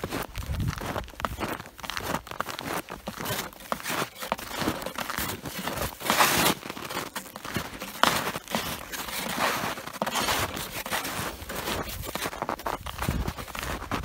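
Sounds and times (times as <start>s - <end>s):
snowshoe footsteps crunching snow: 0.0s - 14.0s.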